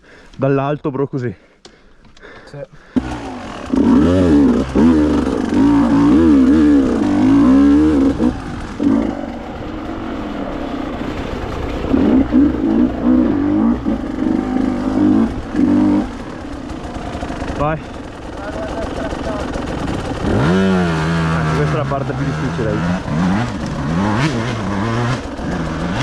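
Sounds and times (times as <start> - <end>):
motorcycle engine revving: 2.9 - 26.0.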